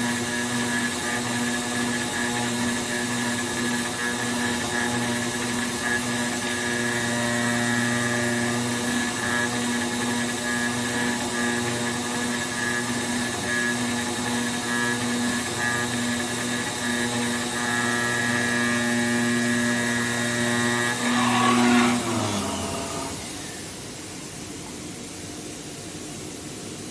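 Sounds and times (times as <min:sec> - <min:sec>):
router spindle whining: 0:00.0 - 0:23.6.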